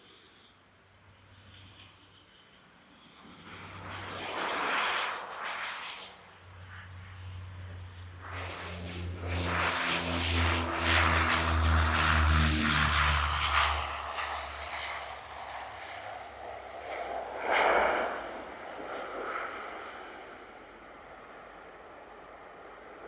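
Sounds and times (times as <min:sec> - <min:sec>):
airplane engine rushing: 0:00.0 - 0:23.0
propeller drone: 0:00.0 - 0:23.0.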